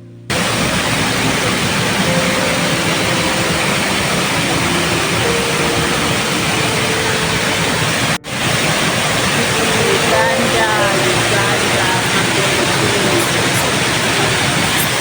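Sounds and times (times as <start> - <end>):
waterfall rushing: 0.3 - 15.0.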